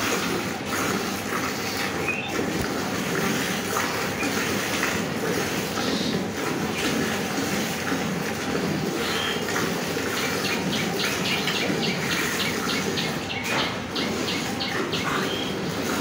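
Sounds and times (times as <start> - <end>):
milk squirting into a bucket: 0.0 - 16.0.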